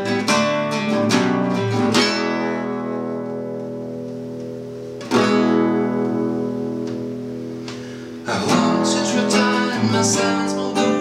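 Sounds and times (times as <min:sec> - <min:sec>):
classical guitar strummed chords: 0:00.0 - 0:11.0.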